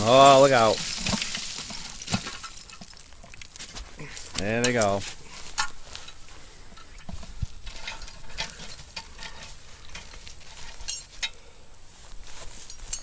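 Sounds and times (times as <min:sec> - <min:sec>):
coals and chain clicking: 0:00.0 - 0:11.4, 0:12.4 - 0:13.0.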